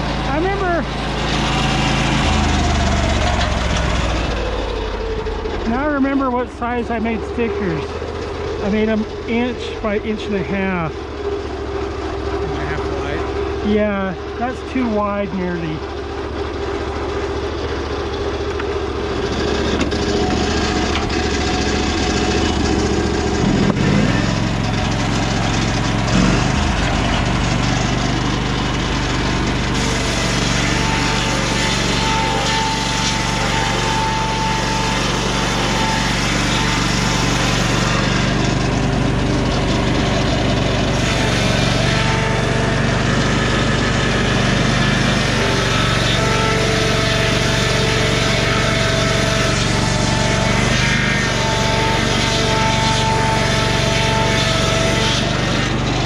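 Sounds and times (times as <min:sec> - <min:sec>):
circular blade cutting wood: 0:00.0 - 0:10.9, 0:18.4 - 0:56.0
sawmill engine running under load: 0:00.0 - 0:56.0.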